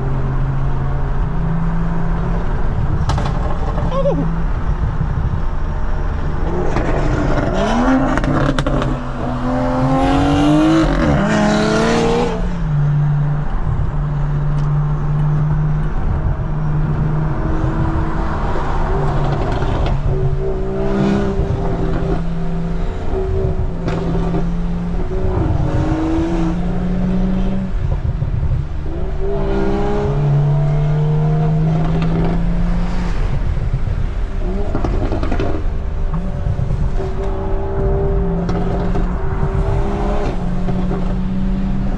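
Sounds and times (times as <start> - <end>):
car engine accelerating hard: 0.0 - 41.9
road noise: 0.0 - 41.9.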